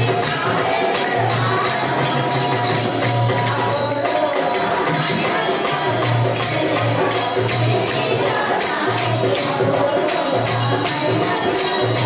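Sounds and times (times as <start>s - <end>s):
jingling hand percussion: 0.0s - 12.0s
women singing devotional song: 0.0s - 12.0s.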